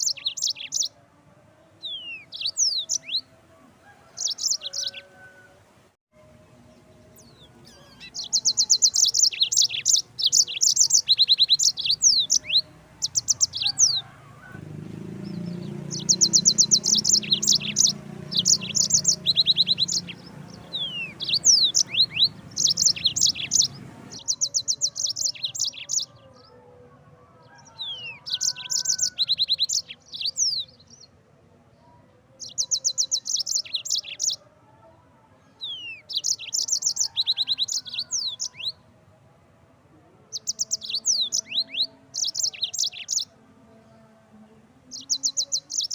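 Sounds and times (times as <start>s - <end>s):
canary singing trills: 0.0s - 1.0s, 1.7s - 5.5s, 6.7s - 26.6s, 27.4s - 31.2s, 32.3s - 34.9s, 35.5s - 38.9s, 40.2s - 43.4s, 44.8s - 45.9s.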